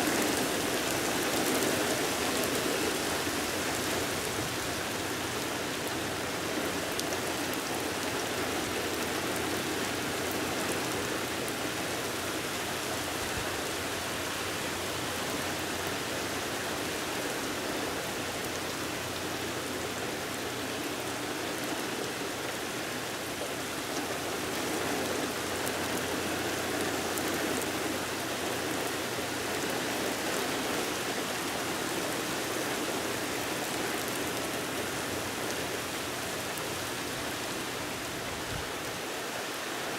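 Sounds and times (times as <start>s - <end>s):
raindrops ticking on surfaces: 0.0s - 39.9s
steady rain: 0.0s - 39.9s.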